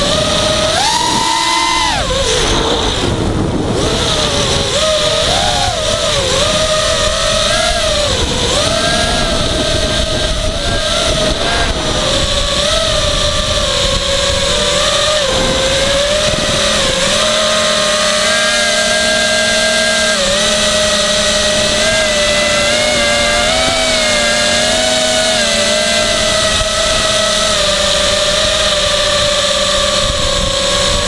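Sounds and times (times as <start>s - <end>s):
drone motors and propellers whining: 0.0s - 31.0s.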